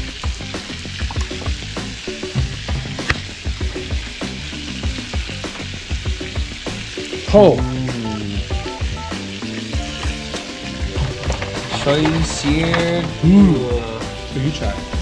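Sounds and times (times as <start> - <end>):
background music: 0.0 - 15.0
fish sizzling in butter: 0.0 - 15.0.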